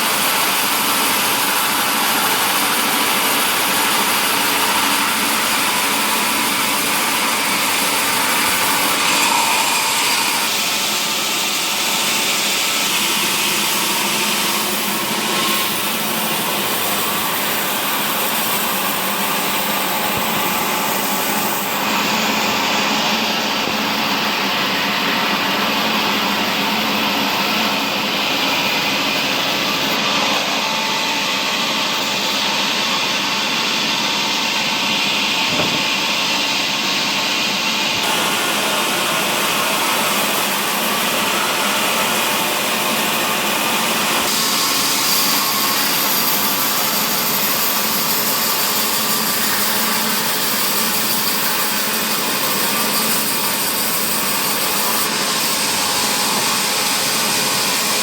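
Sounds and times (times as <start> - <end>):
sawmill machinery cutting timber: 0.0 - 58.0.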